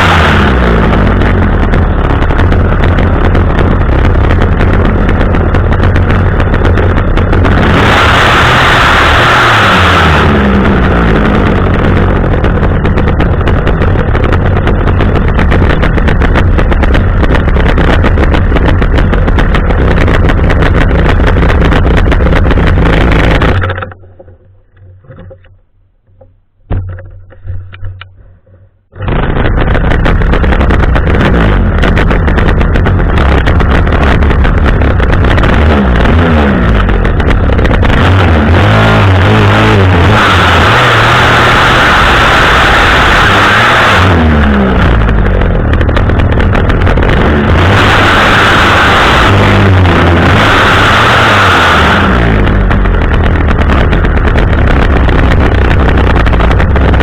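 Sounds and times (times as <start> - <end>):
pole chainsaw engine running: 0.0 - 25.4, 28.9 - 57.0.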